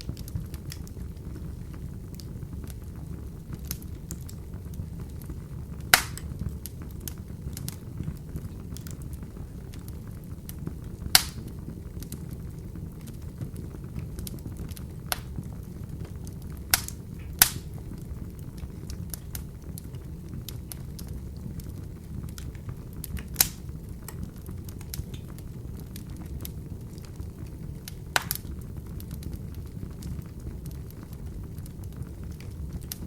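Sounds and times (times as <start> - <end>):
fire crackling in fireplace: 0.0 - 33.0.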